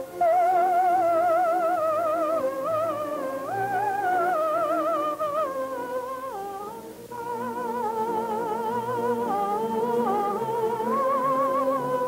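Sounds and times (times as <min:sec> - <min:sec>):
soft musical accompaniment: 0:00.0 - 0:12.0
woman singing with vibrato: 0:00.0 - 0:12.0.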